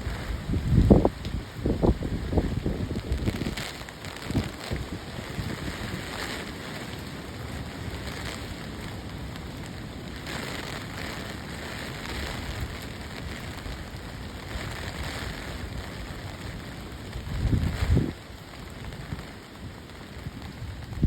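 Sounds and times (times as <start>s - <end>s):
heavy rain pouring: 0.0s - 21.0s
wind rumbling on microphone: 0.0s - 21.0s.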